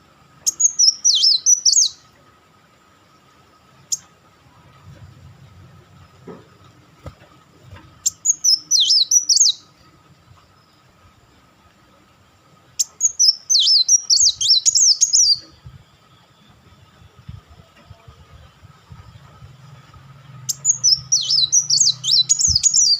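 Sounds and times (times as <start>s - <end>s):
sunbird chattering song: 0.0s - 2.2s, 3.2s - 4.9s, 5.8s - 11.2s, 12.7s - 22.9s.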